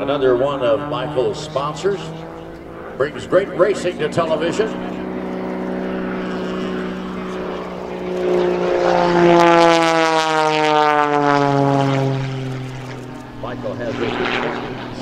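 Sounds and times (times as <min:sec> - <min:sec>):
propeller plane engine passing: 0:00.0 - 0:15.0.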